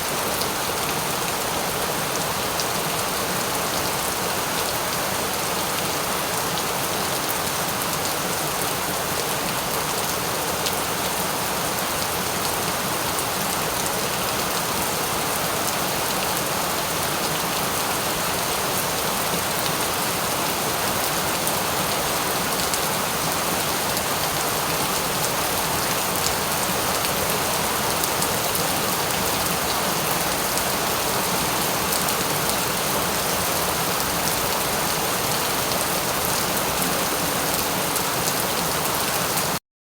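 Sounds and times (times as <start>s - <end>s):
rain pattering on a surface: 0.0s - 39.6s.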